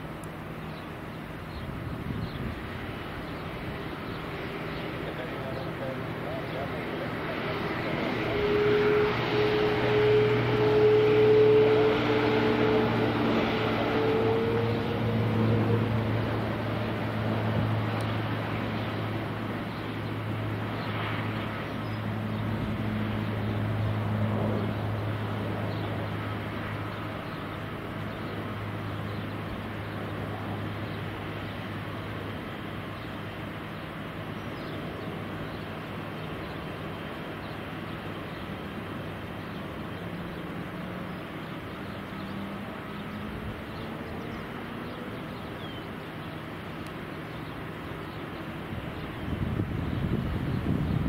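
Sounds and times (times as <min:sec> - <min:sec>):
airliner engines droning: 0:00.0 - 0:51.0.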